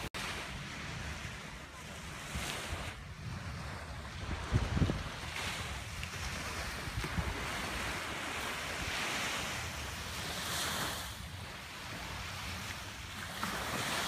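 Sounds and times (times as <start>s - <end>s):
waves breaking on beach: 0.0s - 14.0s
wind rumbling on microphone: 0.0s - 14.0s.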